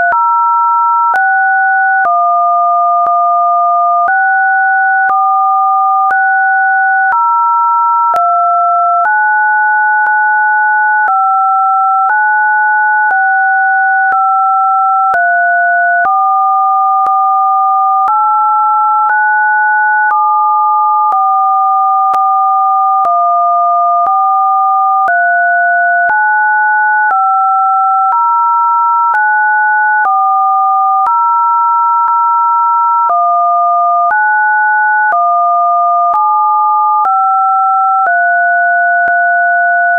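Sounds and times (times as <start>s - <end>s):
sine tones: 0.0s - 39.9s.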